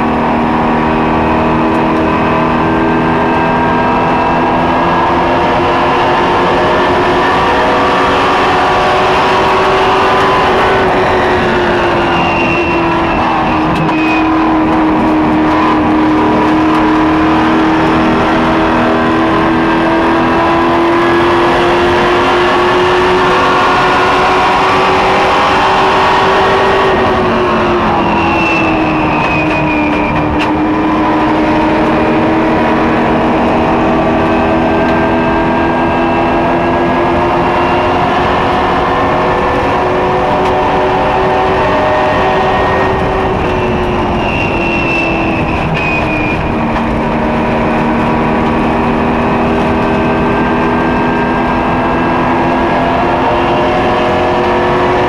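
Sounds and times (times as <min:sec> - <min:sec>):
truck engine running hard: 0:00.0 - 0:55.0.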